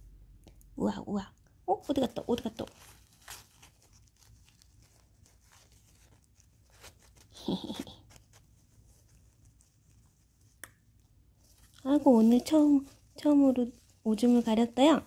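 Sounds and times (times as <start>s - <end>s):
tissue paper crinkling: 1.8s - 15.0s.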